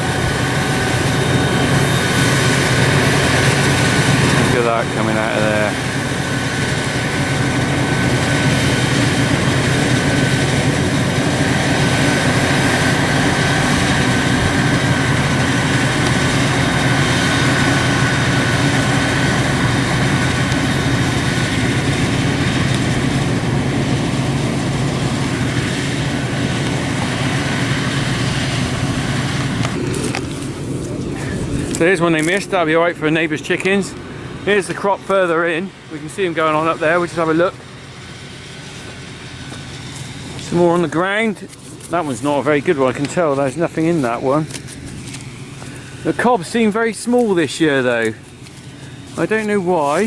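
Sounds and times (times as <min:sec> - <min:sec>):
forage harvester engine drone: 0:00.0 - 0:50.0
high machine whine: 0:00.0 - 0:50.0.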